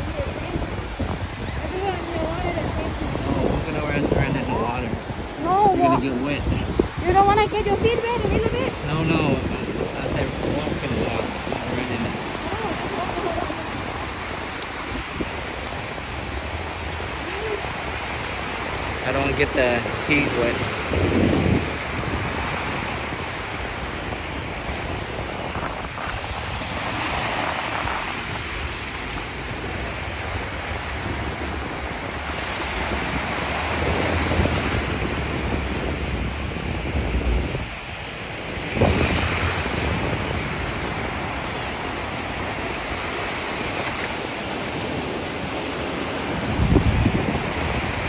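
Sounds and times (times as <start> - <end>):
surf breaking on beach: 0.0 - 48.0
wind buffeting microphone: 0.0 - 48.0.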